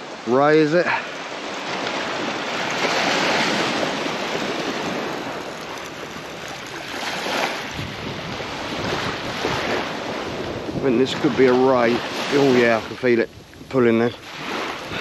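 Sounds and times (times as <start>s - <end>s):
surf washing onto beach: 0.0s - 15.0s
wind: 0.0s - 15.0s.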